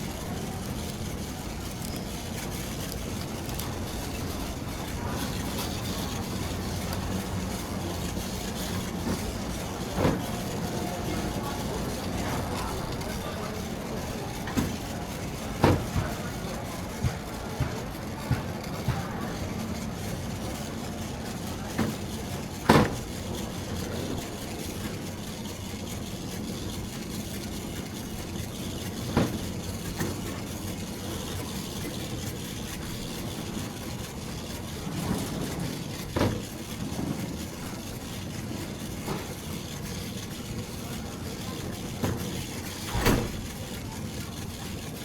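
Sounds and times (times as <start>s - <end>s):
steady store rumble: 0.0s - 45.0s.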